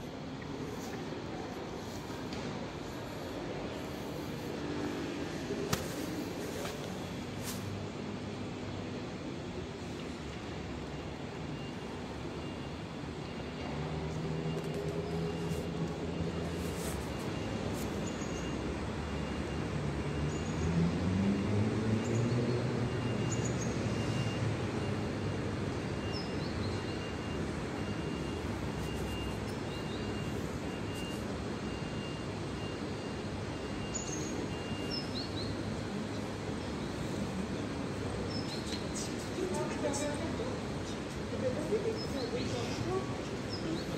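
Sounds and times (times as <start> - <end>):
urban background noise: 0.0 - 43.9.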